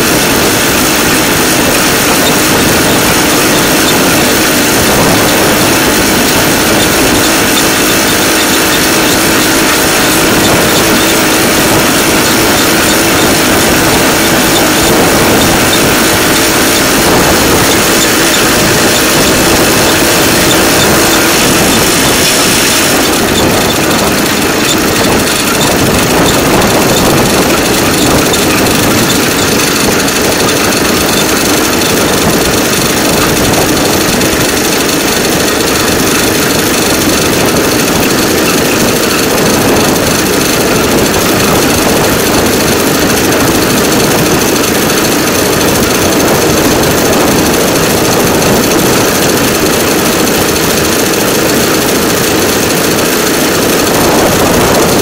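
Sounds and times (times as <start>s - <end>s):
draisine engine and wheels on rails: 0.0s - 55.0s
high squeal: 0.0s - 55.0s.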